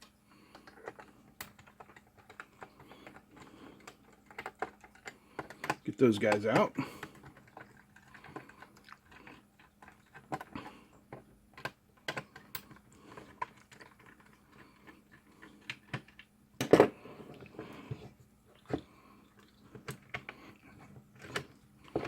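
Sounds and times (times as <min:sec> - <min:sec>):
hard plastic clatter: 0:00.5 - 0:18.9.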